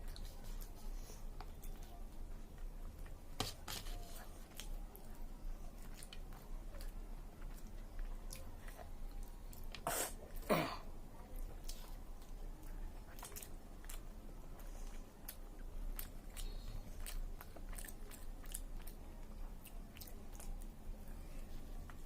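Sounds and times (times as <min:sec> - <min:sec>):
person chewing food: 0:00.0 - 0:10.5, 0:11.3 - 0:22.0.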